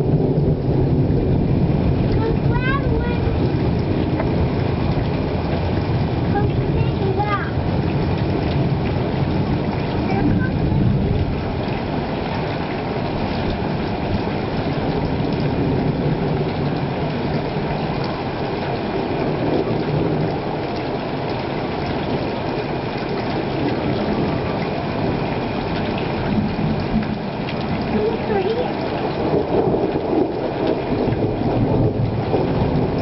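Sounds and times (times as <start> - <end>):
rushing storm noise: 0.0 - 33.0.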